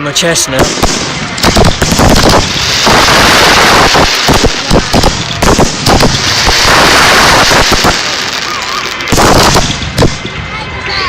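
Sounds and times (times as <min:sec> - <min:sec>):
firework bursts and crackling: 0:00.6 - 0:10.6.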